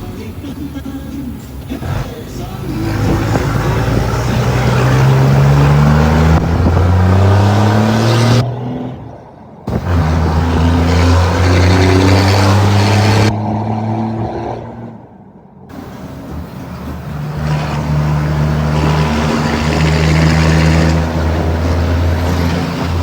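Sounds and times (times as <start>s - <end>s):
diesel truck engine pulling: 0.0s - 13.4s, 15.7s - 23.0s.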